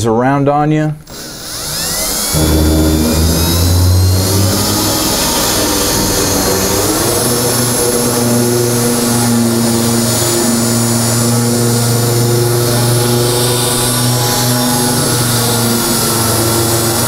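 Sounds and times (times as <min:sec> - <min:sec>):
drill motor whine: 0:01.1 - 0:17.0.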